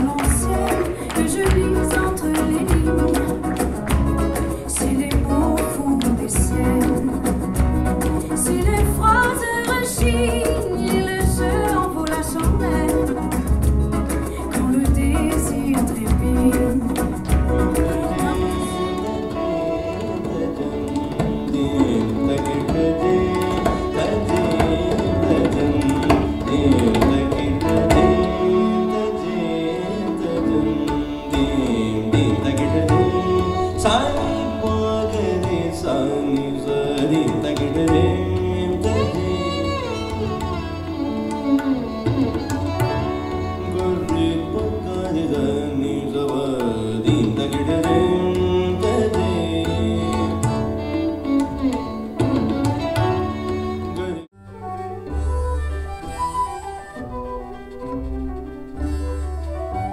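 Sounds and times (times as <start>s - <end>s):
tabla drumming: 0.0s - 54.3s
sliding melody line: 0.0s - 59.9s.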